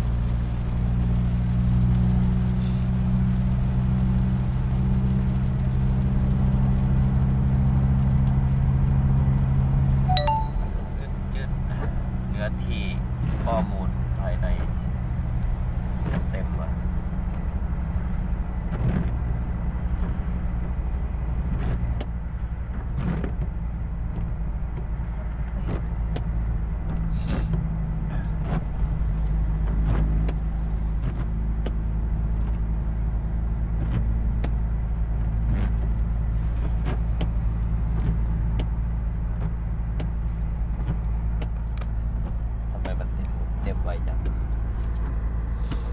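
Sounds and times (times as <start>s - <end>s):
car engine and tyre drone: 0.0s - 45.9s.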